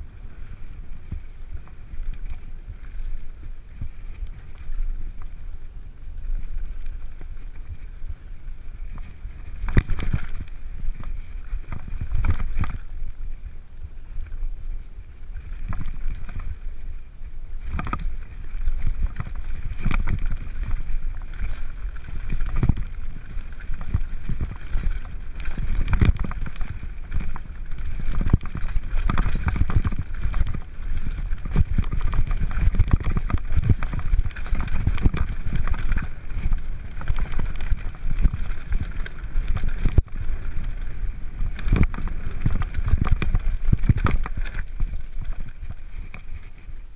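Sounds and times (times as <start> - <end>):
bike rattling over stones: 0.0 - 46.9
wind rumble on microphone: 0.0 - 46.9.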